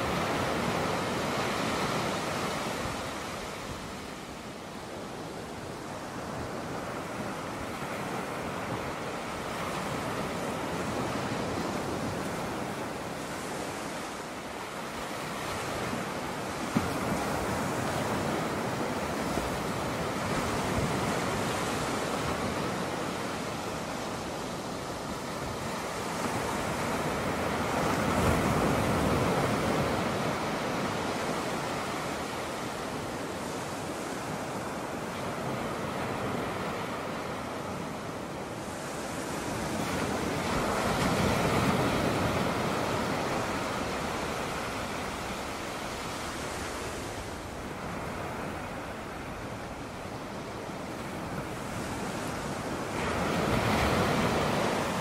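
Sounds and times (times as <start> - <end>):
ocean surf breaking on rocks: 5.3 - 55.0.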